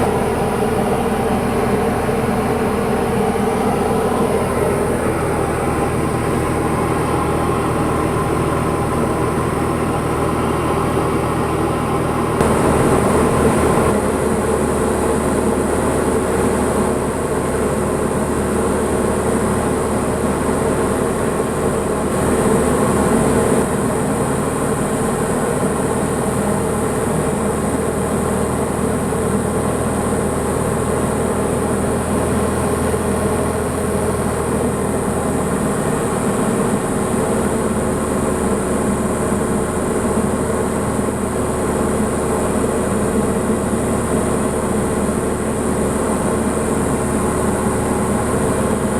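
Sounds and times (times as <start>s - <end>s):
light aircraft engine and propeller drone: 0.0s - 48.9s.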